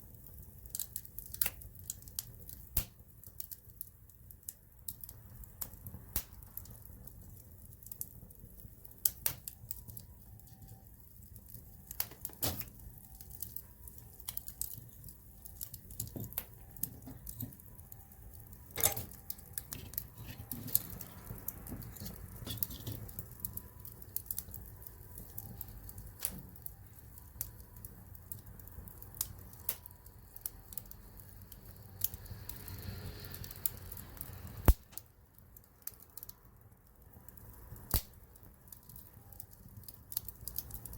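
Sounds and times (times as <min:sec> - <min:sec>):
campfire crackling and popping: 0:00.0 - 0:40.9
low rumble of flames: 0:00.0 - 0:40.9.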